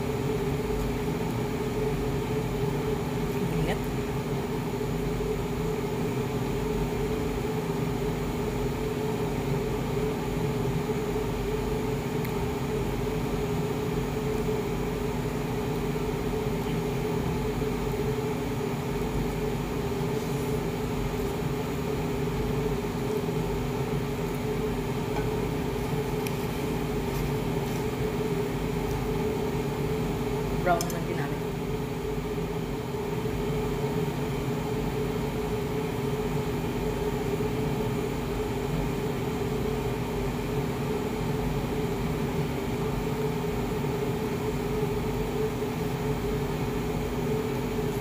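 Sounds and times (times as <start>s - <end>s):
appliance machine hum: 0.0s - 48.0s.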